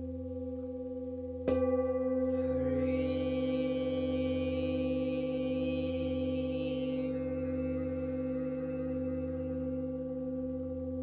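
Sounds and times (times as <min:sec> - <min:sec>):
brass singing bowl ringing: 0:00.0 - 0:11.0
singing bowl strike: 0:00.0 - 0:11.0.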